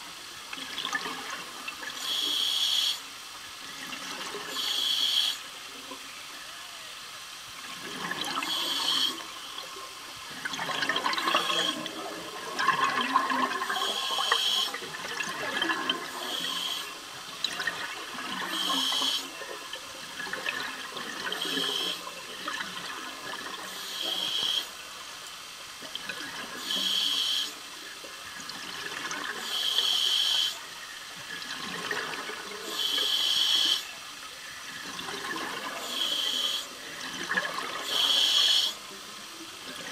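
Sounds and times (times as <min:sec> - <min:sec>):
exhaled bubbles hissing: 0:00.0 - 0:06.1, 0:06.8 - 0:39.9
underwater bubbling and gurgling: 0:00.0 - 0:06.3, 0:07.2 - 0:39.9.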